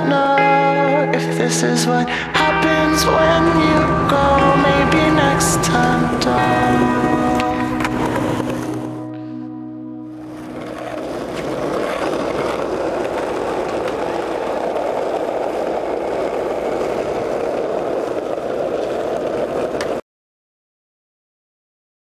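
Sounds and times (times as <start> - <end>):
skateboard wheels rolling on asphalt: 0.0 - 20.0.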